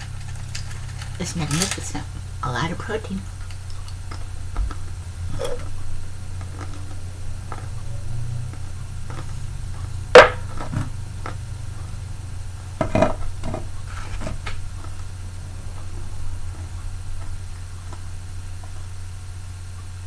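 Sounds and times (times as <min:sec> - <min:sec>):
crackly crunch: 0:00.0 - 0:20.0
eating noises: 0:00.0 - 0:20.0
steady low hum: 0:00.0 - 0:20.0.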